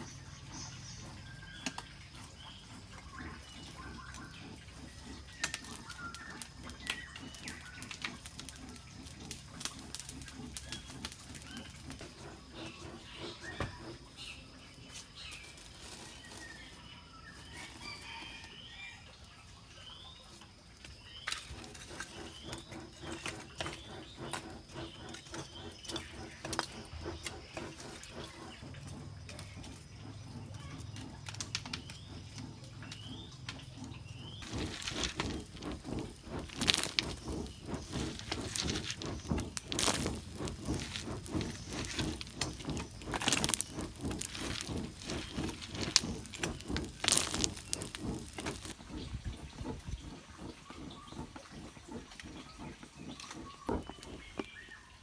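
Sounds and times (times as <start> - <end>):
charcoal crackling: 0.0 - 20.1, 20.7 - 55.0
birds chirping: 0.0 - 55.0.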